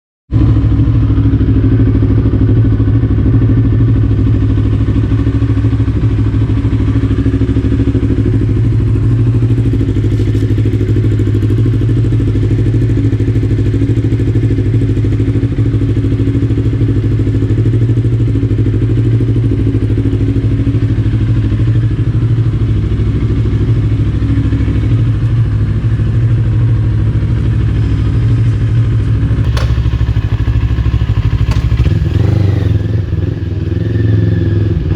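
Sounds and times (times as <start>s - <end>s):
motorcycle engine running: 0.3s - 34.9s.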